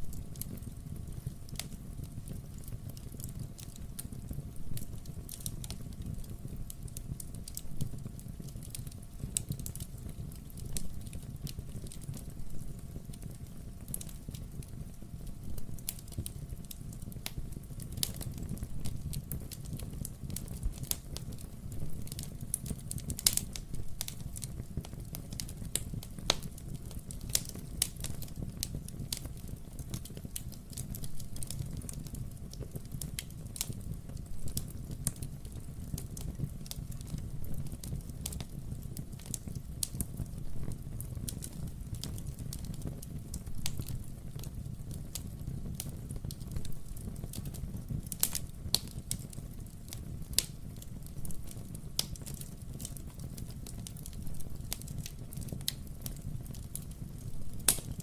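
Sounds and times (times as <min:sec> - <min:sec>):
fireplace crackling: 0:00.0 - 0:58.0.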